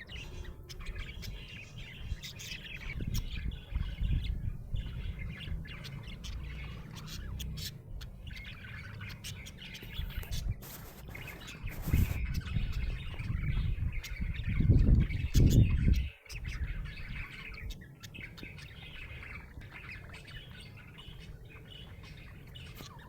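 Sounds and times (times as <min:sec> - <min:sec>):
budgerigar chirping: 0:00.0 - 0:23.0.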